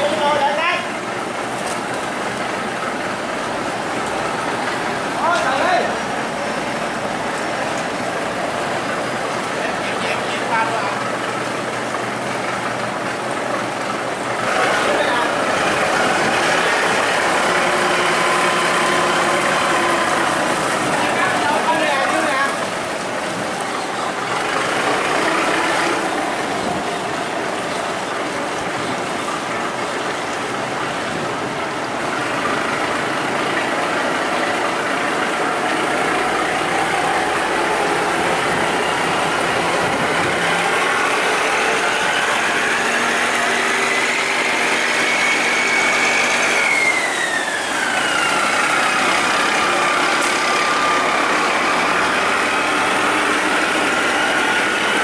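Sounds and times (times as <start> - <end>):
diesel engine running: 0.0 - 55.0
engine whine: 0.0 - 55.0.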